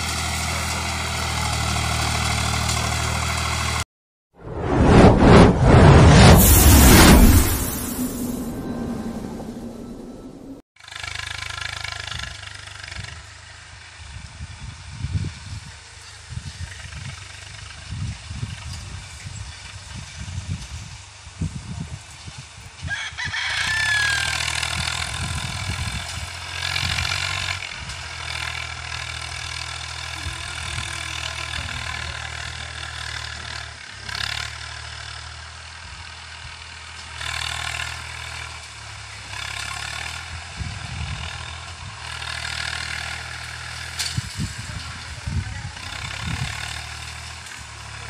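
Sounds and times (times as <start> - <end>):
tractor diesel engine under load: 0.0 - 3.8, 9.5 - 21.7, 23.6 - 48.0.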